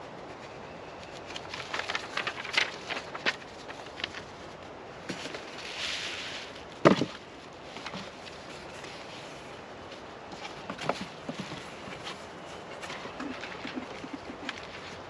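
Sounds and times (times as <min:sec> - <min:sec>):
handling clicks and rustles: 0:00.1 - 0:05.7, 0:06.5 - 0:15.0.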